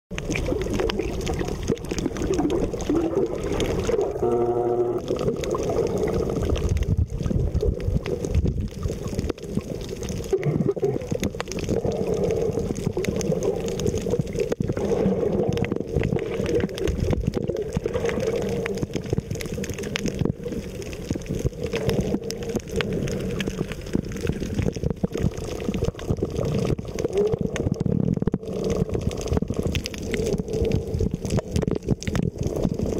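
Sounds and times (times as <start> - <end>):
small underwater clicks: 0.1 - 32.9
underwater water gurgling: 0.1 - 32.9.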